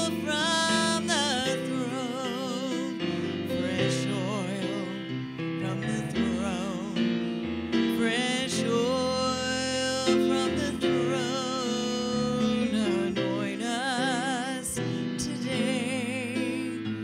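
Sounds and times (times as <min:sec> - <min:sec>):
person singing gospel: 0:00.0 - 0:17.0
piano accompaniment: 0:00.0 - 0:17.0.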